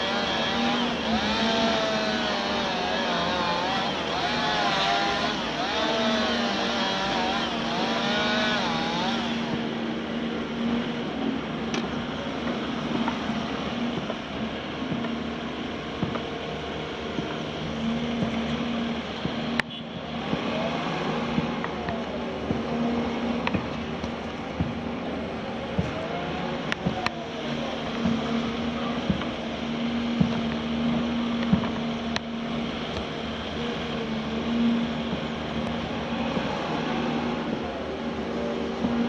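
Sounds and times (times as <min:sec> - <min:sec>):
excavator diesel engine drone: 0:00.0 - 0:39.0
hydraulic whine: 0:00.0 - 0:39.0.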